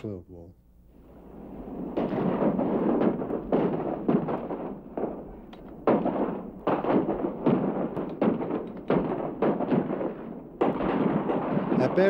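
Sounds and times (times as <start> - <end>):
artillery shots booming: 1.0 - 12.0.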